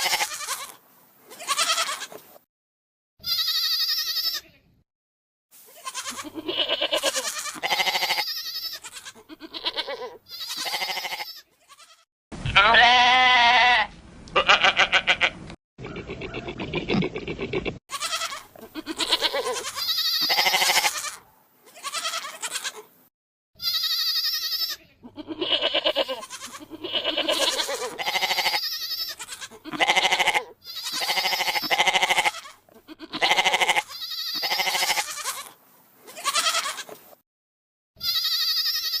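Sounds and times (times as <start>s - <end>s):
goat bleats: 0.0s - 2.2s, 3.2s - 4.8s, 5.6s - 22.9s, 23.6s - 37.0s, 38.0s - 39.0s.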